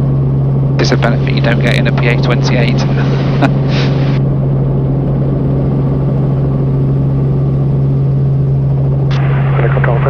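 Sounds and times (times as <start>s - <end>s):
helicopter engine and rotor drone: 0.0s - 10.0s.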